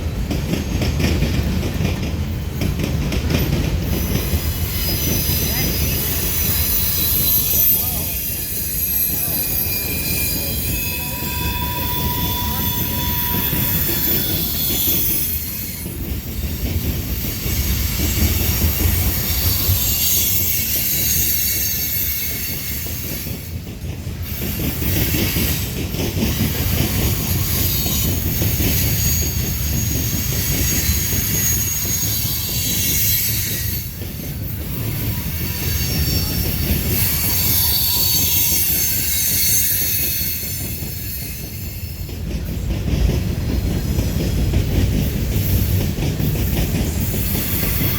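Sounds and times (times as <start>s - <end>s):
train wheels rumbling on rail: 0.0s - 47.9s
wheels squealing: 3.4s - 23.6s, 24.2s - 42.7s.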